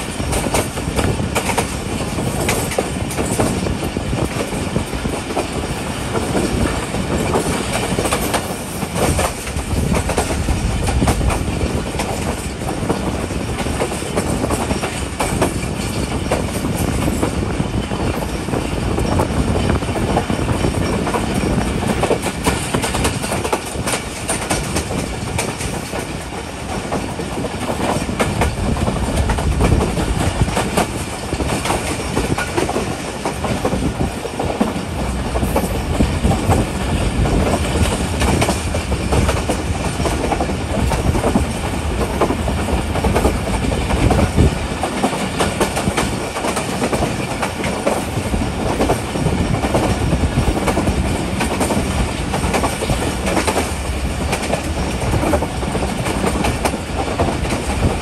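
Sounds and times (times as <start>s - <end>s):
rail joint clicks: 0.0s - 58.0s
train wheels rumbling on rails: 0.0s - 58.0s.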